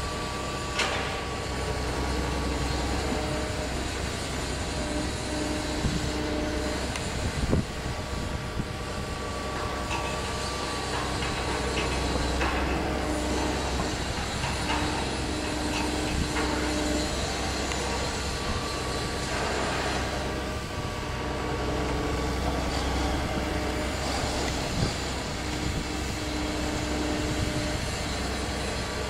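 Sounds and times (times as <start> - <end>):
excavator working: 0.0 - 29.0
vibratory roller droning: 0.0 - 29.0.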